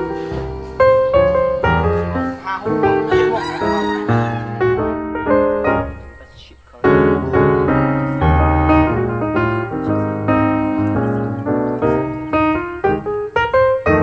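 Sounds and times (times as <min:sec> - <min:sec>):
piano background music: 0:00.0 - 0:14.0.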